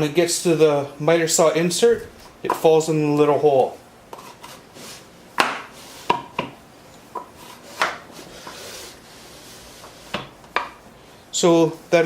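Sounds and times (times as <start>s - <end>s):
faint sliding hiss: 0.0s - 12.0s.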